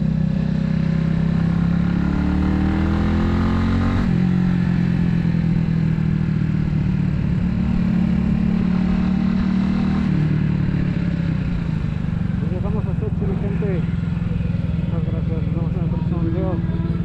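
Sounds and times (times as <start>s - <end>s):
motorcycle engine revving and cruising: 0.0s - 17.0s.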